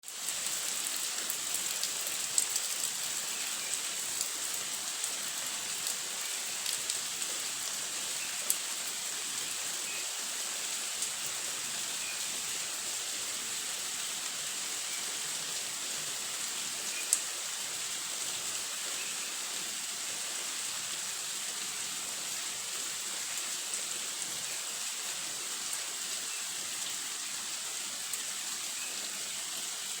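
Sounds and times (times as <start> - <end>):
heavy rain hissing: 0.0 - 30.0.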